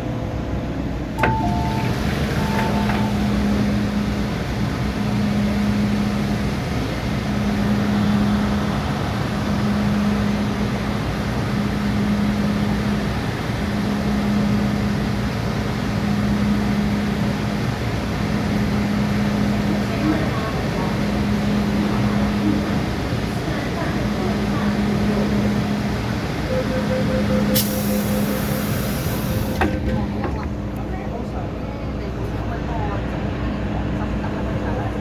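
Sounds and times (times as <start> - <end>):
train ride rumble: 0.0 - 35.0.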